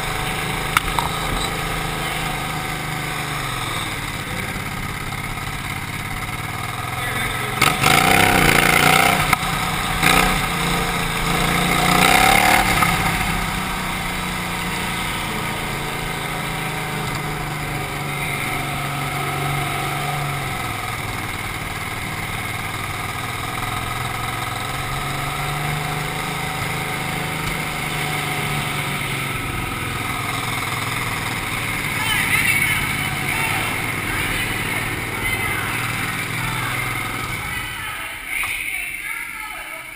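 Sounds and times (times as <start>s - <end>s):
lawnmower engine revving: 0.0s - 37.8s.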